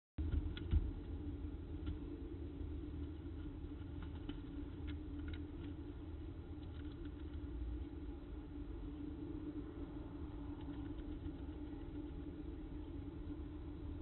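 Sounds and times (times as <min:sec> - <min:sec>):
steady low hum: 0:00.2 - 0:14.0.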